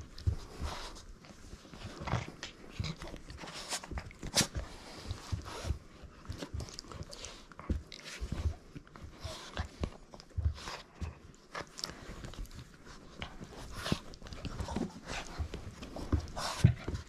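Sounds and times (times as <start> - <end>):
dog playing noises: 0.0 - 17.0
paws scuffling on plush toy: 0.0 - 17.0.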